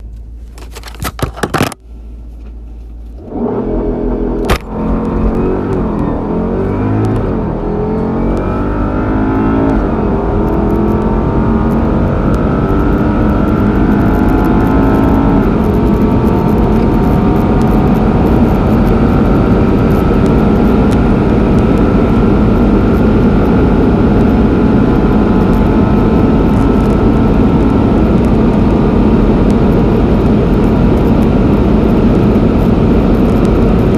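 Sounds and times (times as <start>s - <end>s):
road and wind noise: 0.0s - 33.9s
car engine accelerating: 2.4s - 33.9s.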